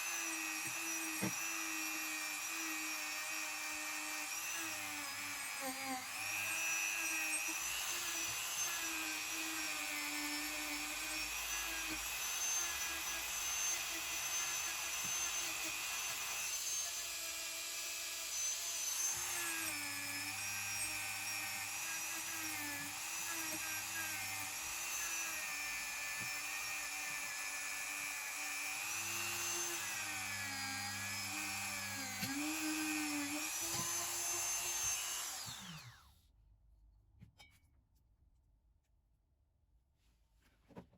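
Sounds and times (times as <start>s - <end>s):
rotary tool whining: 0.0s - 36.1s.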